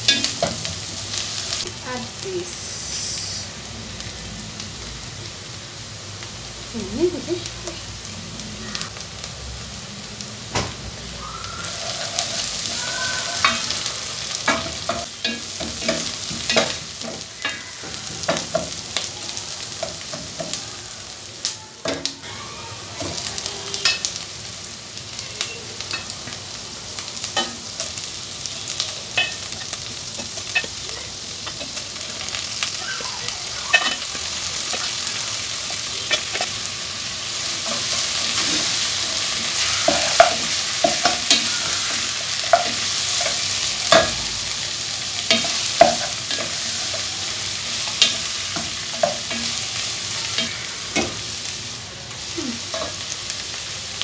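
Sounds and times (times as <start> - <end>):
onions sizzling in a pot: 0.0 - 54.0.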